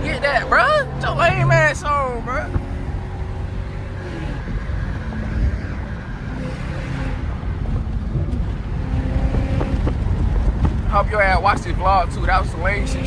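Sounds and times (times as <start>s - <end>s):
car engine running: 0.0s - 13.0s
road and wind noise: 0.0s - 13.0s.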